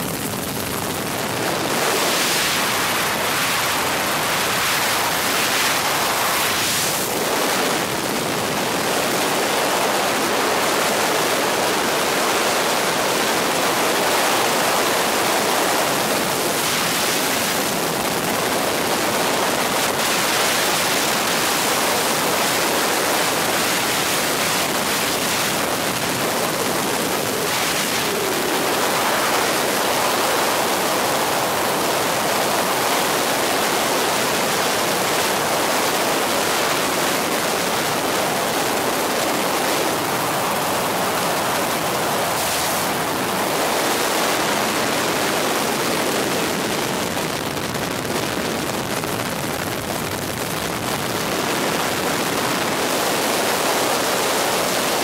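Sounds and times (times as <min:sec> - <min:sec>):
helicopter cabin noise: 0:00.0 - 0:55.0.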